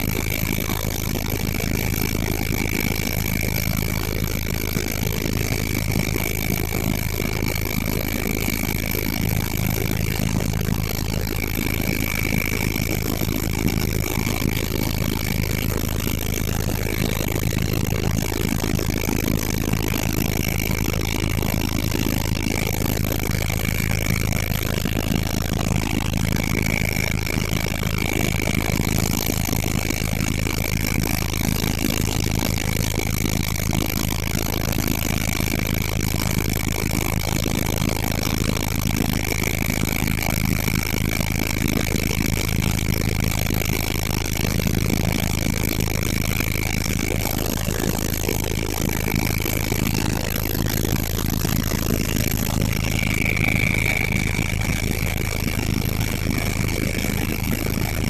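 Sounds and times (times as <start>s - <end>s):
helicopter engine and rotor drone: 0.0s - 58.0s
high whine: 0.0s - 58.0s.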